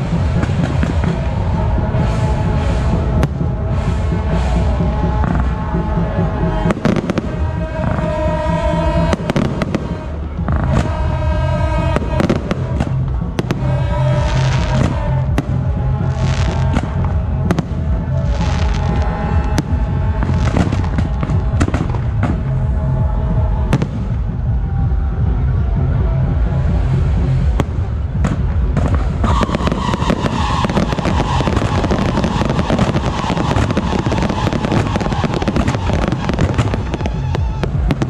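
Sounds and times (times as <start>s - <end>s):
fireworks bangs and crackles: 0.0s - 38.0s
music: 0.0s - 38.0s.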